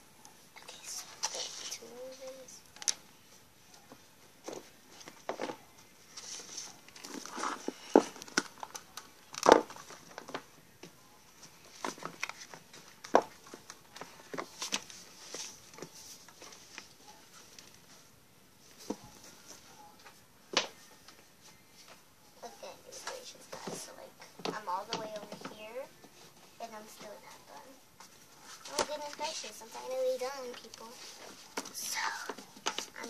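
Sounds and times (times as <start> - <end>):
rustling and crinkling: 0.2 - 33.0.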